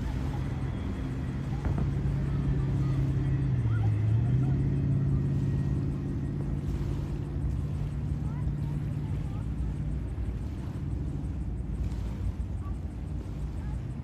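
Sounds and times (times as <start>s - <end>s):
watercraft engine running: 0.0s - 14.0s.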